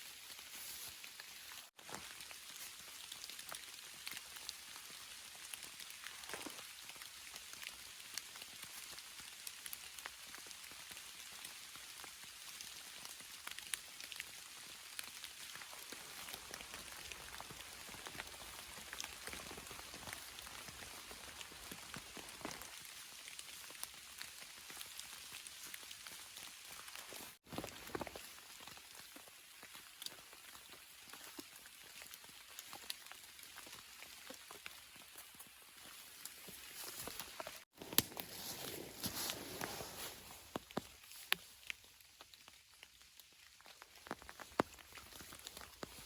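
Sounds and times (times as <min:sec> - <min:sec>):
raindrops ticking and tapping: 0:01.8 - 0:35.9, 0:40.4 - 0:46.0.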